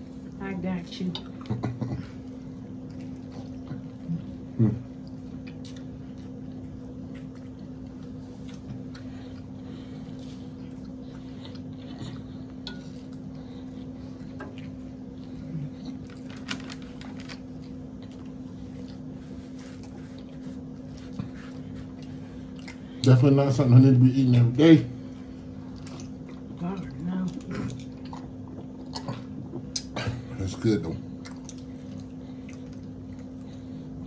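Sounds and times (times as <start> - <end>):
steady low hum: 0.0 - 34.0
chewing and mouth sounds: 1.0 - 23.3, 25.5 - 30.1, 30.8 - 33.9.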